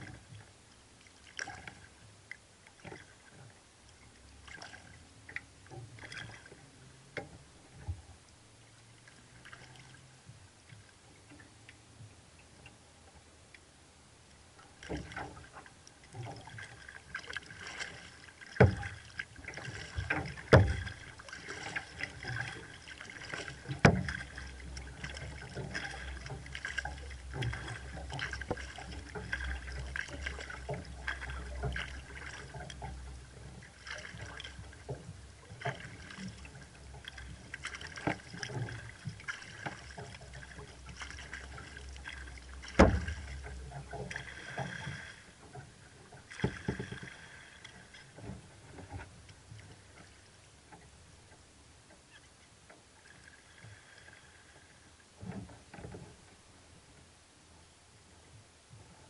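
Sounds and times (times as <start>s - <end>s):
paddle blades splashing: 0.0s - 12.8s, 14.5s - 56.9s.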